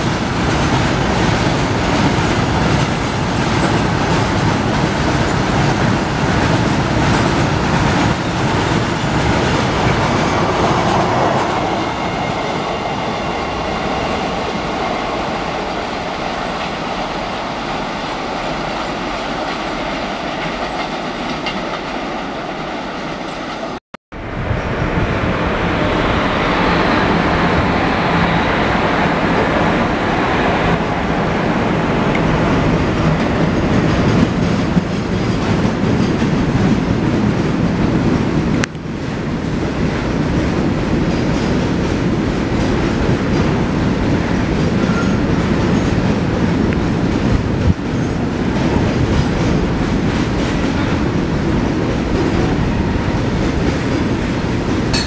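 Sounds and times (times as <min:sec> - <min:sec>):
freight train wheels clattering: 0:00.0 - 0:23.8, 0:32.1 - 0:55.0.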